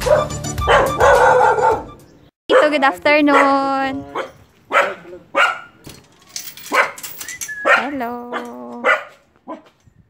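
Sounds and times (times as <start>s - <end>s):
dogs barking: 0.0s - 5.8s, 6.6s - 9.8s.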